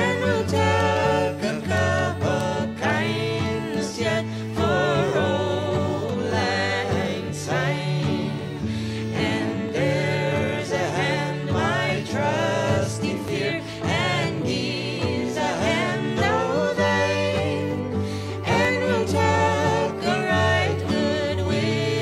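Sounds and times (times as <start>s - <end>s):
song with sung melody: 0.0s - 22.0s.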